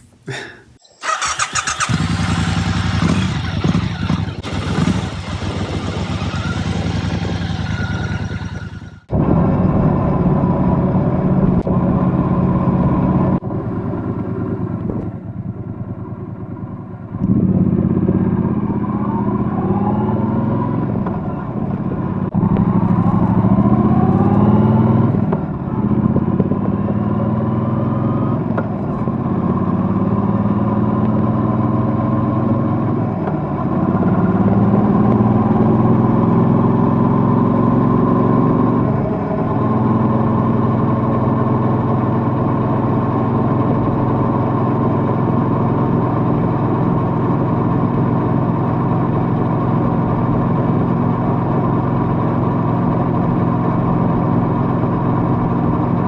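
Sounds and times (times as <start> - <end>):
motorcycle engine shifting gears: 0.8 - 56.0.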